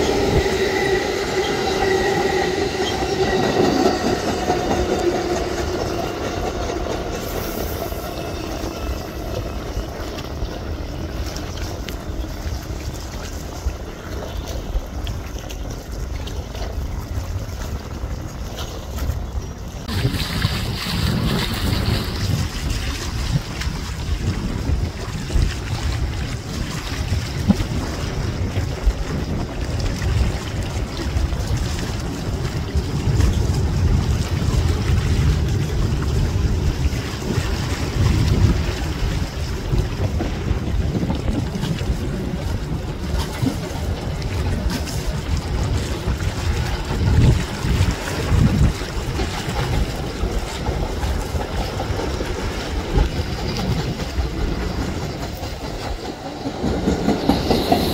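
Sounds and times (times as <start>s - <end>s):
subway train rumbling: 0.0s - 57.9s.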